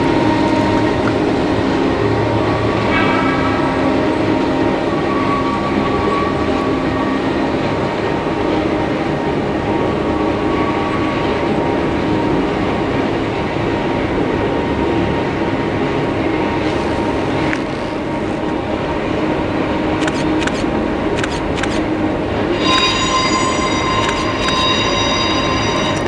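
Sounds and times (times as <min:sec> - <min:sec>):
faint whine: 0:00.0 - 0:14.8, 0:15.6 - 0:26.0
passenger train running: 0:00.0 - 0:26.0.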